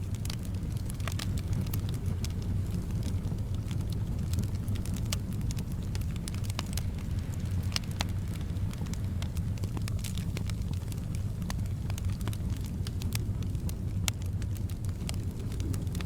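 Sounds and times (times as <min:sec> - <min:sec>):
soft wind rumble: 0:00.0 - 0:16.0
wood fire crackling: 0:00.0 - 0:16.0.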